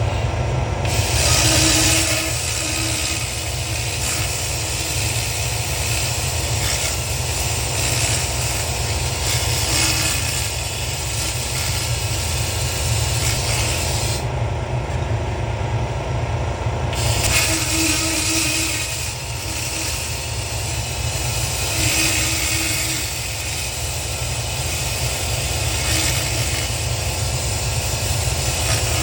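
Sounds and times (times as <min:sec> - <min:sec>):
low machine hum: 0:00.0 - 0:29.0
laser crackling hiss: 0:00.9 - 0:14.2, 0:17.0 - 0:29.0.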